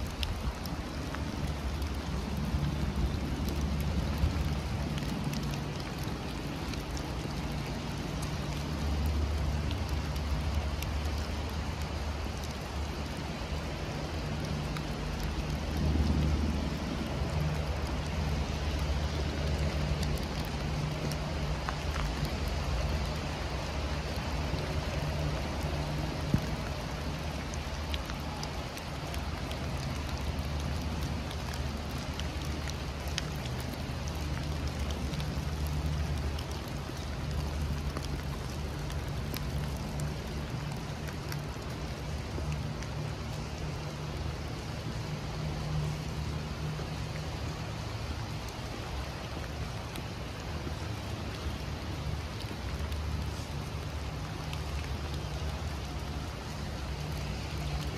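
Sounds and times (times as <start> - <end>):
heavy rain hissing: 0.0 - 57.9
raindrops ticking: 0.0 - 57.9.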